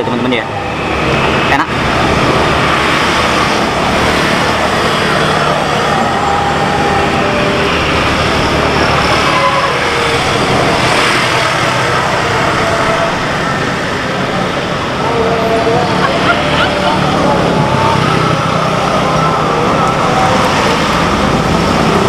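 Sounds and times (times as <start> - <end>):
low engine hum: 0.0 - 22.0
road traffic passing: 0.0 - 22.0.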